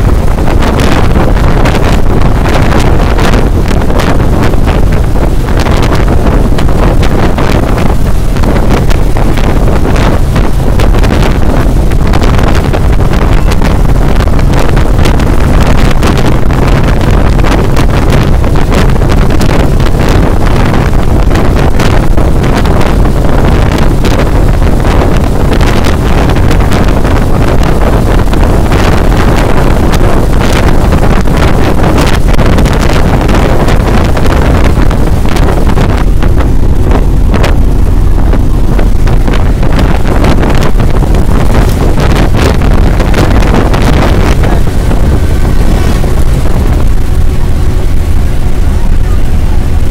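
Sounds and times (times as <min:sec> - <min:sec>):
deep vehicle rumble: 0:00.0 - 0:49.9
short crackles from gusts: 0:00.0 - 0:49.9
wind buffeting microphone: 0:00.0 - 0:49.9.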